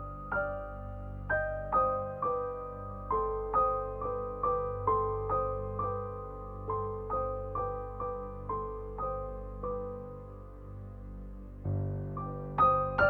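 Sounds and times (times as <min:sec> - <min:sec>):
gentle keyboard melody: 0:00.0 - 0:13.0.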